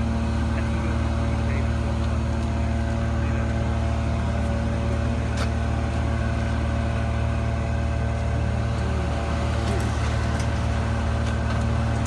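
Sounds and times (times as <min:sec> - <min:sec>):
large engine droning: 0:00.0 - 0:12.0.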